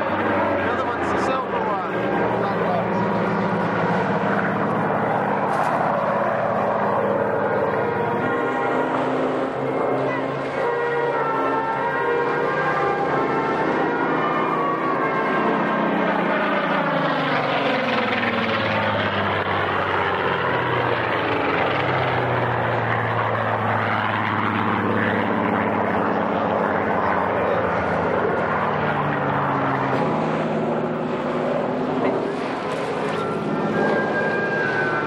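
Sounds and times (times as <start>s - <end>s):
propeller aircraft flying past: 0.0s - 35.0s.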